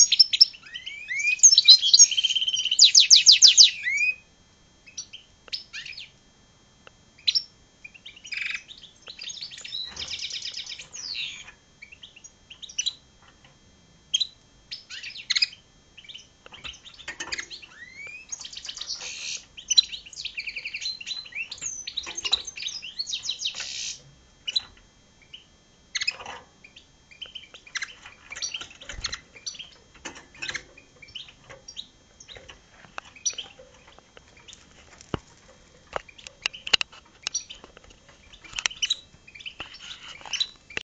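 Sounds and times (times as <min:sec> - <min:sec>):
bird twittering song: 0:00.0 - 0:06.2, 0:07.2 - 0:13.0, 0:14.1 - 0:34.6, 0:36.0 - 0:40.8.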